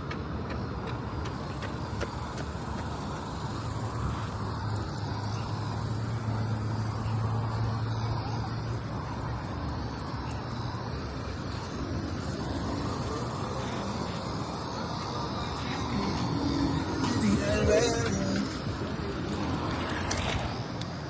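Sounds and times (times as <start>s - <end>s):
vehicle passing: 0.0s - 21.0s.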